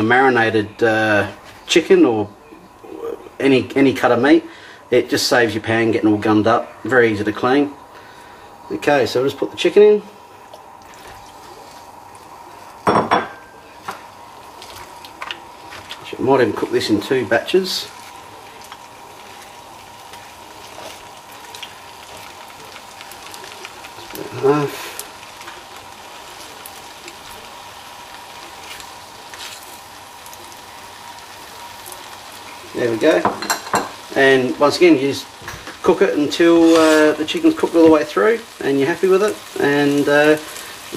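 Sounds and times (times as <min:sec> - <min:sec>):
chicken sizzling in a frying pan: 0:00.0 - 0:40.9.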